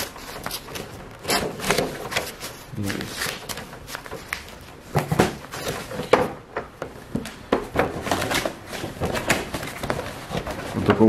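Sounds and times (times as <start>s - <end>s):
cardboard tearing and rustling: 0.0s - 6.2s, 7.7s - 11.0s.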